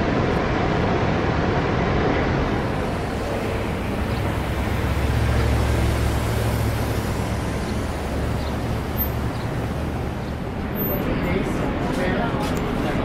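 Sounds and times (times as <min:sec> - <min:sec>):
deep vehicle engine rumble: 0:00.0 - 0:13.0
street traffic noise: 0:00.0 - 0:13.0.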